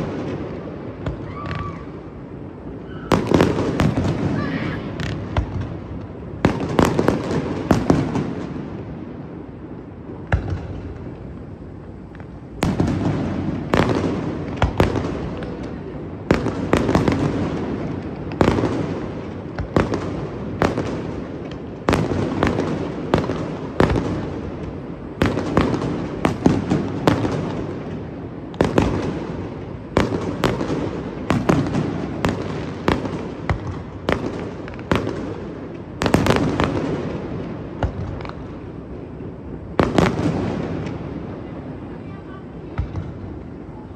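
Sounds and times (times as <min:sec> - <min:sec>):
fireworks bangs with rolling echo: 0:00.0 - 0:43.9.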